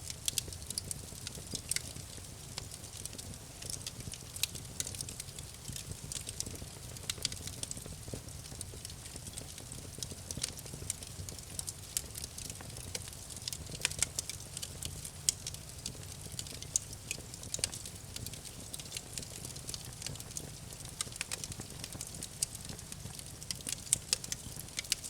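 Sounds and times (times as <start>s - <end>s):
low rumble of flames: 0.1s - 25.0s
wood crackling and popping: 0.1s - 25.0s.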